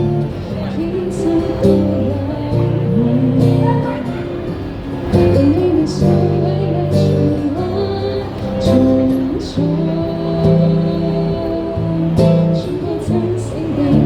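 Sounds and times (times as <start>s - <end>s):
live band with guitar chords: 0.0s - 14.0s.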